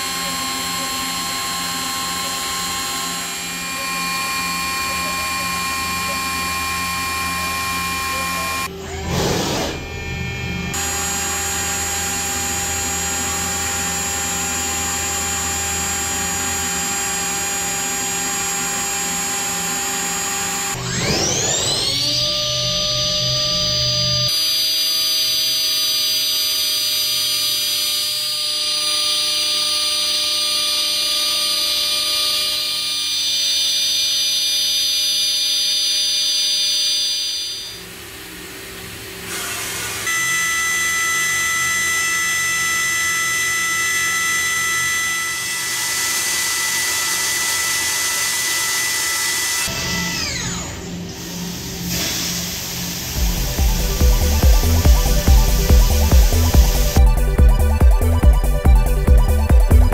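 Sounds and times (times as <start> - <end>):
machine spindle steady tones: 0.0 - 59.9.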